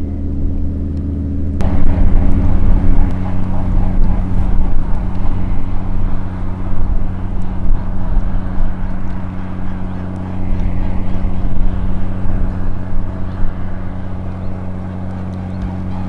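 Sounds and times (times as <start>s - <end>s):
boat diesel engine drone: 0.0s - 16.0s
rough rushing noise: 0.0s - 16.0s.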